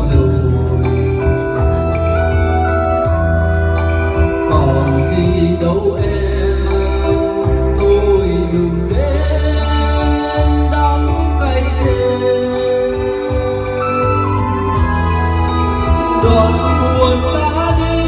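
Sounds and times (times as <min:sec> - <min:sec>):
deep sustained bass notes: 0:00.0 - 0:18.0
song with singing over loudspeakers: 0:00.0 - 0:18.0.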